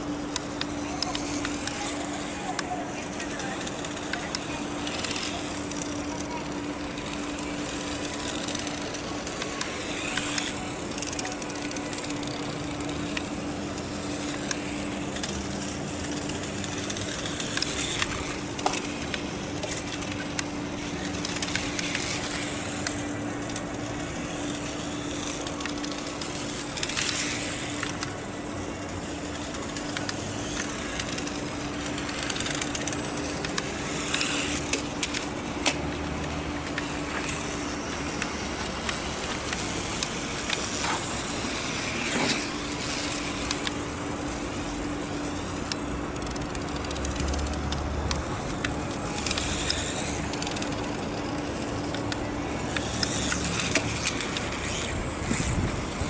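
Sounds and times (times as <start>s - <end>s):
steady low hum: 0.0s - 56.0s
toy motorcycle electric motor running: 0.0s - 56.0s.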